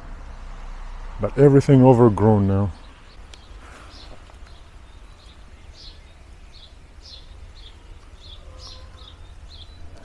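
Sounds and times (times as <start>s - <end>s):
bird chirping: 0.0s - 10.0s
low outdoor rumble: 0.0s - 10.0s.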